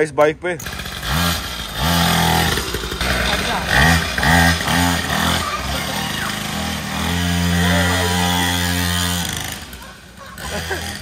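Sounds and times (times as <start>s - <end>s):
small petrol engine revving: 0.6s - 11.0s.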